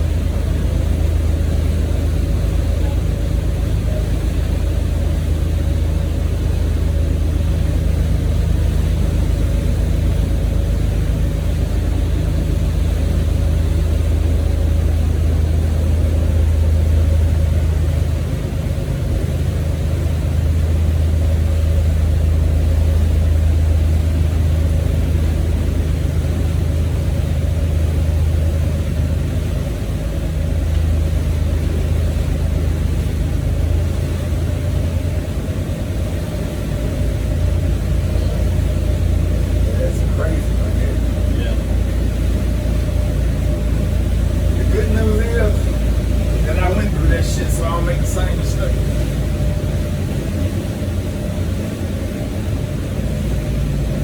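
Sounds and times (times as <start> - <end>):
motorboat engines droning: 0.0 - 54.0
steady hum: 0.0 - 54.0.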